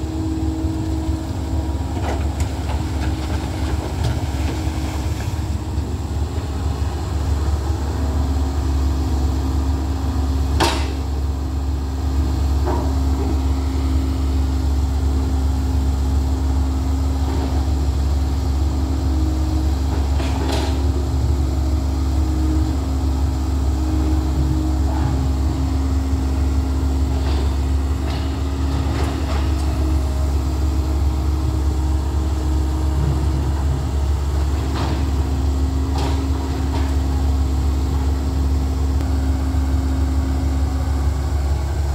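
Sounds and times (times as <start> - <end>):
excavator diesel engine drone: 0.0 - 41.9.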